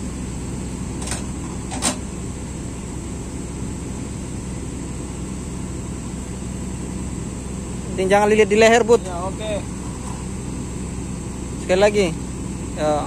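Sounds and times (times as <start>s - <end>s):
machinery droning: 0.0s - 13.0s.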